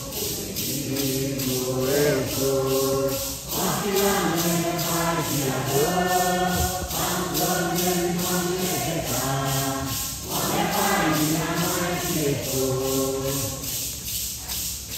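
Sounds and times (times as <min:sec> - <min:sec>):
congregation singing a hymn: 0:00.0 - 0:14.9
shaken maracas: 0:00.0 - 0:14.9.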